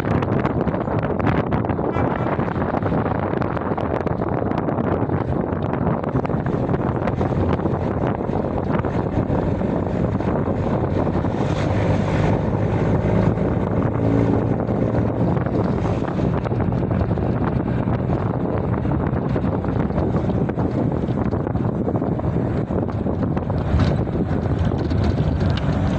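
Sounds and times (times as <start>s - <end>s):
wind rumble on microphone: 0.0s - 25.9s.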